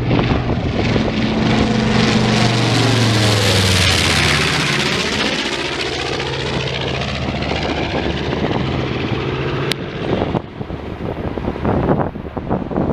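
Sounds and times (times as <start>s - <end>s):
propeller plane engines droning: 0.0s - 12.9s.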